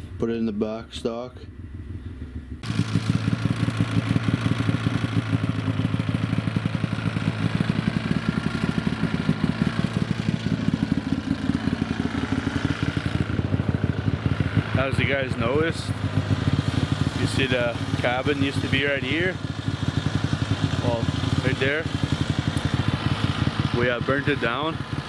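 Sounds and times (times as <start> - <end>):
snowmobile engine running: 2.6 - 25.0.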